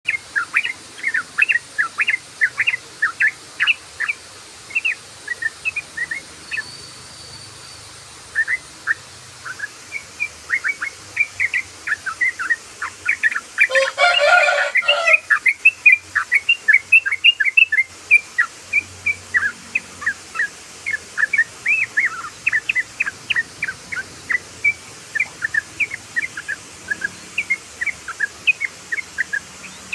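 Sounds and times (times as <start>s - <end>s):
bird singing bubbly notes: 0.1s - 29.9s.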